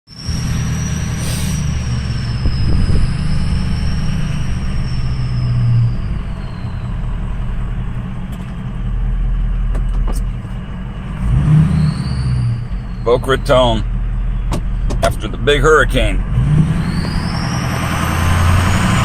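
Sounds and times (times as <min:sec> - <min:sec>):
car engine and road noise: 0:00.1 - 0:19.0.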